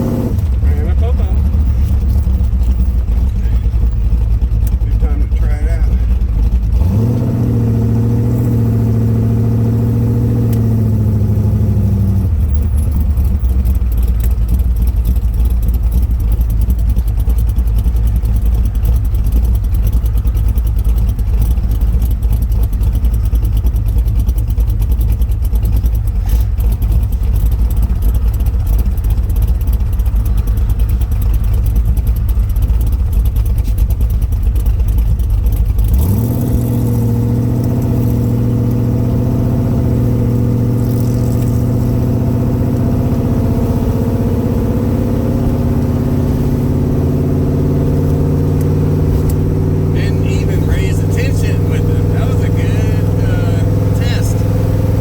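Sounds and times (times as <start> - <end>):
car engine driving: 0.0 - 55.0.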